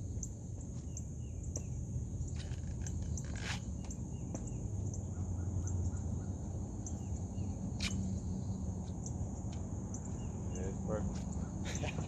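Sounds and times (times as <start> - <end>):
bird chirping: 0.0 - 12.0
insects droning: 0.0 - 12.0.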